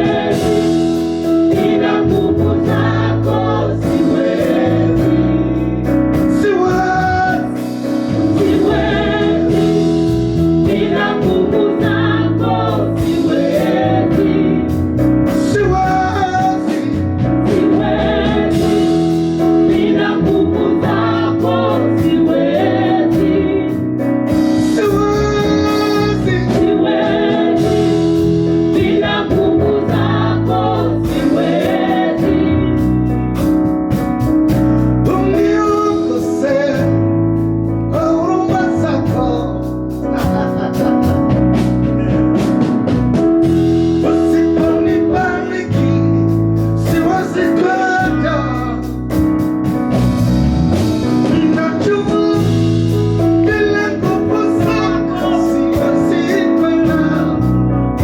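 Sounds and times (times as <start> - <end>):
low bass line: 0.0 - 58.0
sustained keyboard chords: 0.0 - 58.0
voices singing gospel: 0.0 - 58.0.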